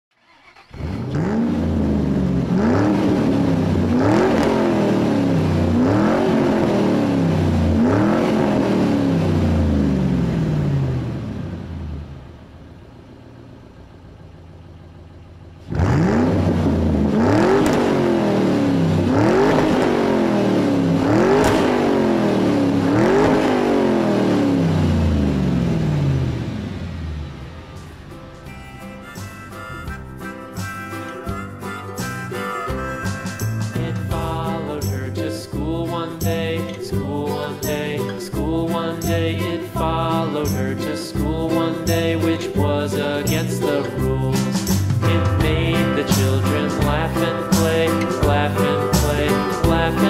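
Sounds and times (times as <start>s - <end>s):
car engine revving: 0.2s - 50.0s.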